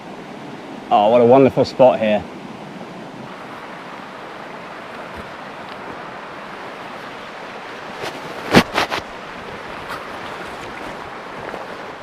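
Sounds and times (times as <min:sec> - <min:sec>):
rocky stream rushing: 0:00.0 - 0:12.0.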